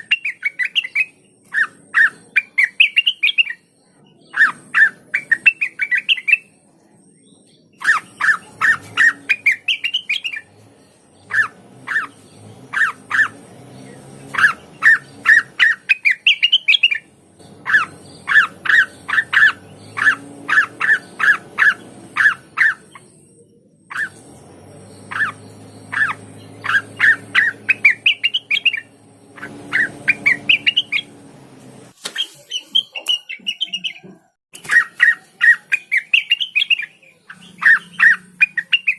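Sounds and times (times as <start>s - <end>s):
bird singing sharp notes: 7.1s - 38.9s.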